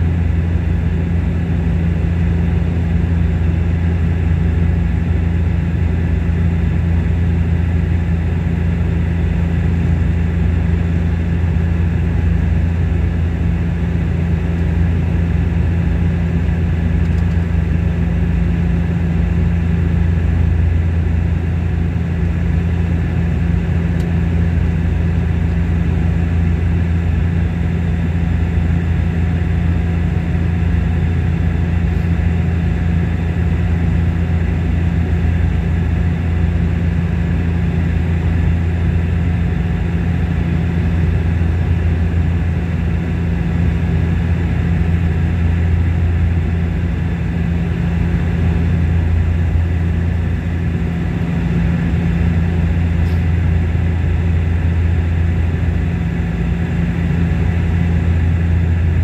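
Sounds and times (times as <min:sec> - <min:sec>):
turboprop engines droning in cabin: 0:00.0 - 0:59.0.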